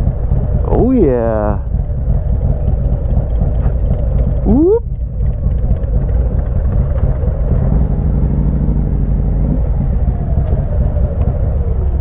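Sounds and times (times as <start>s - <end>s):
motorcycles idling: 0.0s - 12.0s
steady hum: 0.0s - 12.0s.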